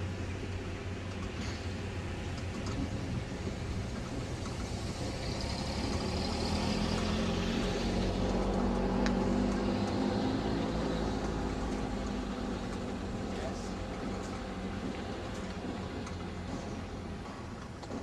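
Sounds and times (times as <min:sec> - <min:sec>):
motor vehicle rumble: 0:00.0 - 0:18.0.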